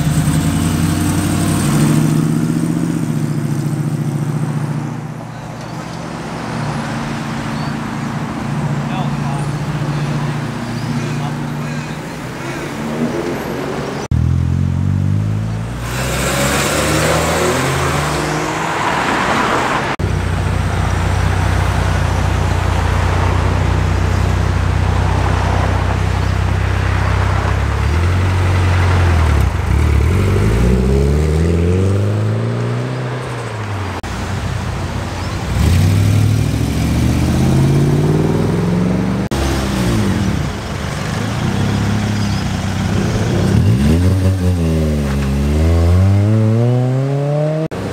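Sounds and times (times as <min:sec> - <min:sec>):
car engines revving and accelerating: 0:00.0 - 0:47.9
tyre and traffic noise: 0:00.0 - 0:47.9.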